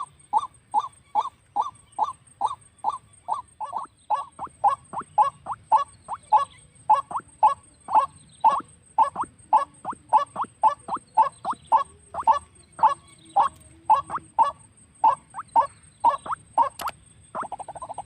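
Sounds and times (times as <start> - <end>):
waterhen croaking call: 0.0 - 18.0.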